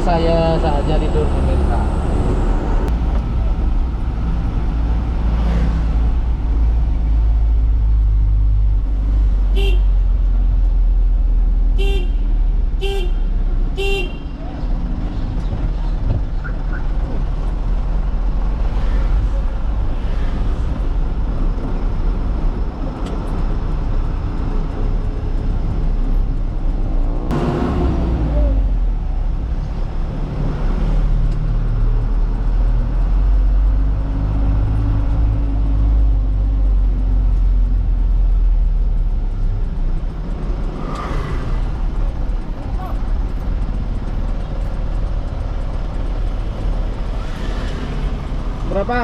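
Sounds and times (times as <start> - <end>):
truck engine and road rumble: 0.0 - 49.0.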